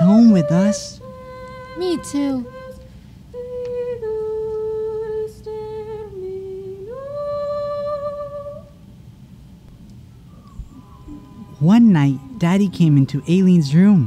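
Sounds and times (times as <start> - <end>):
person humming a slow melody: 0.0 - 8.8, 10.3 - 13.2.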